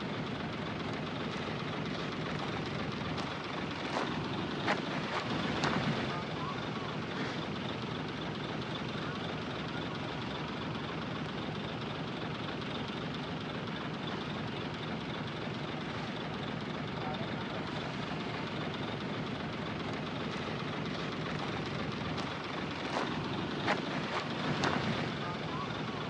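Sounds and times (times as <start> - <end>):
diesel machinery running: 0.0 - 26.0.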